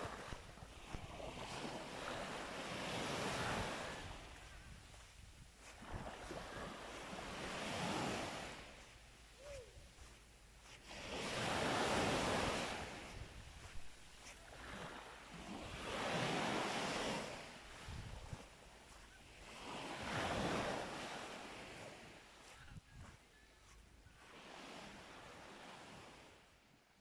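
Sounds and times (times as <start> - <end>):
sea waves breaking on beach: 0.0 - 22.6, 24.2 - 26.4.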